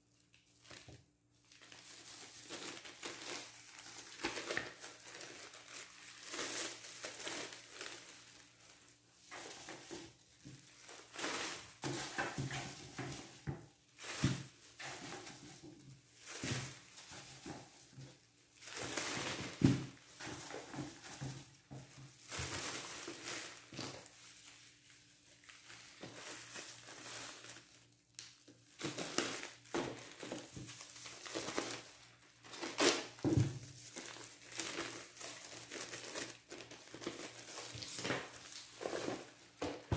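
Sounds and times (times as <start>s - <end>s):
plastic bags crinkling: 0.2s - 39.9s.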